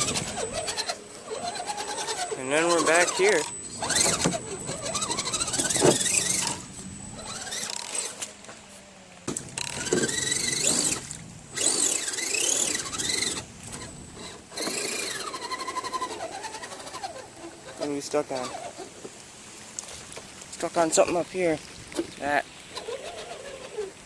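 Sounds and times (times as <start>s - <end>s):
rc car motor whining: 0.0s - 8.6s, 9.3s - 19.0s, 22.7s - 24.0s.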